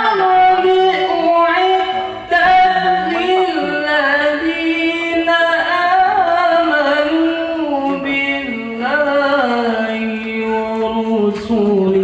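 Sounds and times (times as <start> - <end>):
melodic recitation by one voice: 0.0 - 12.0.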